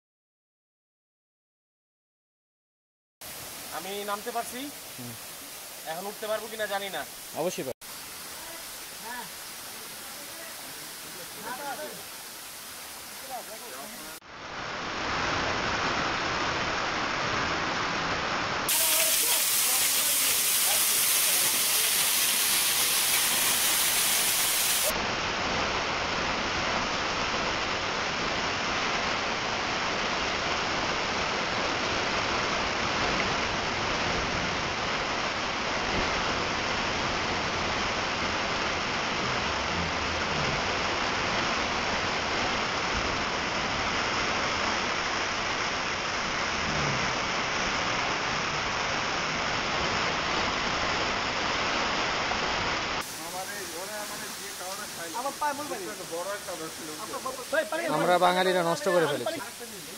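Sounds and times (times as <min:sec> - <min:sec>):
waterfall pouring onto rocks: 0:03.2 - 0:14.3, 0:14.9 - 0:59.9.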